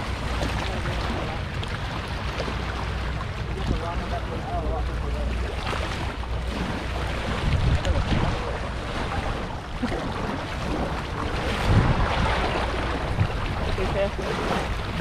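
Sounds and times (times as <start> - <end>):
seawater sloshing and splashing: 0.0 - 15.0
wind buffeting microphone: 0.0 - 15.0.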